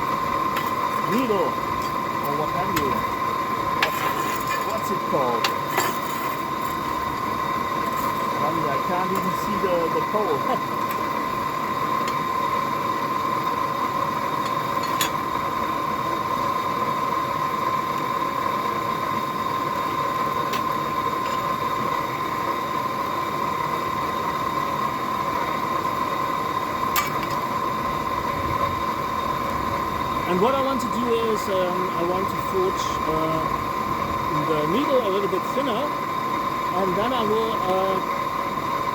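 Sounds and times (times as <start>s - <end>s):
forge rushing with whine: 0.0s - 38.9s.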